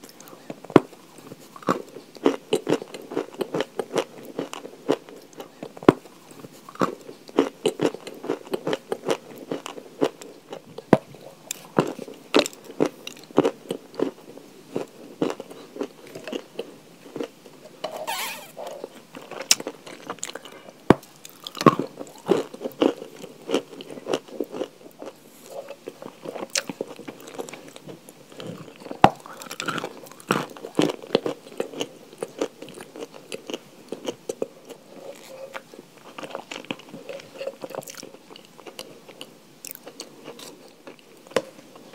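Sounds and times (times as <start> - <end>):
crunching and chewing chalk: 0.0 - 17.6, 18.7 - 41.9.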